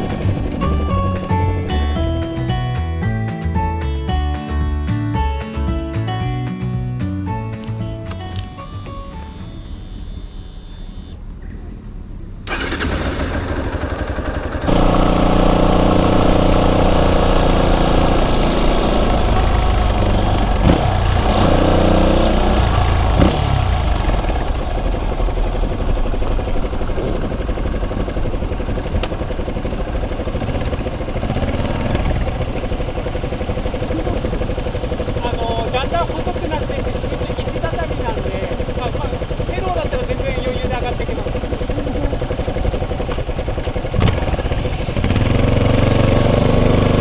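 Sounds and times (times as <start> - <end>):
motorcycle engine running: 0.0 - 11.2, 12.5 - 47.0.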